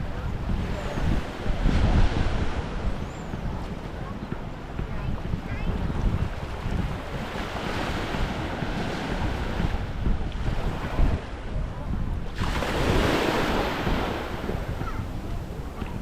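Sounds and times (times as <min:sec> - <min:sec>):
small waves washing on shore: 0:00.0 - 0:16.0
wind buffeting microphone: 0:00.0 - 0:16.0.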